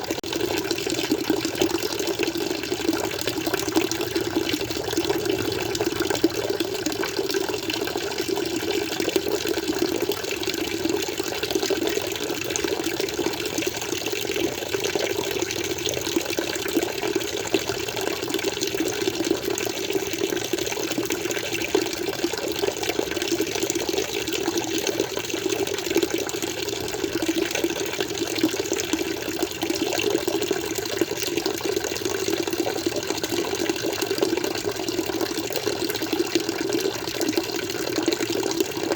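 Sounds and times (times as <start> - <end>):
water flowing in aquarium: 0.0 - 38.9.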